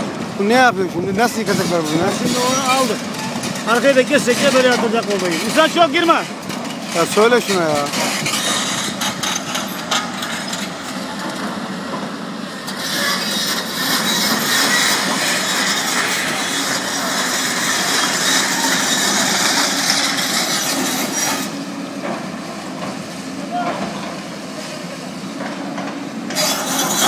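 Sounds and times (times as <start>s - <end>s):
hydraulic shear crushing concrete: 0.4s - 27.0s.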